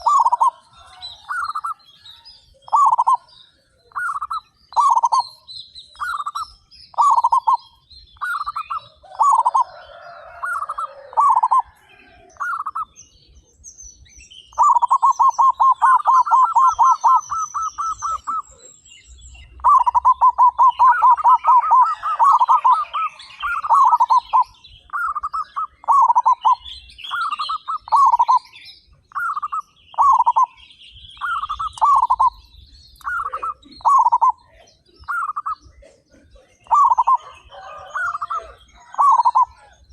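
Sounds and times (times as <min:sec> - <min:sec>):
doves cooing: 0:00.0 - 0:02.0, 0:02.6 - 0:03.3, 0:03.9 - 0:12.9, 0:14.5 - 0:18.8, 0:19.4 - 0:30.6, 0:31.2 - 0:39.9
small birds chirping: 0:00.0 - 0:39.9.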